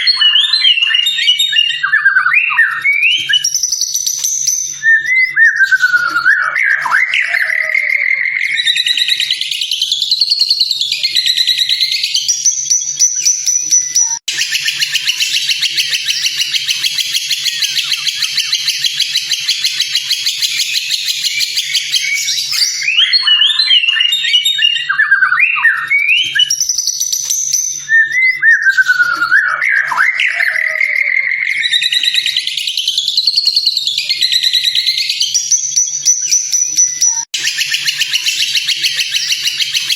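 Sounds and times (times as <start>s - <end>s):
bird whistled song: 0.0s - 39.9s
fast buzzy bird trill: 0.0s - 39.9s.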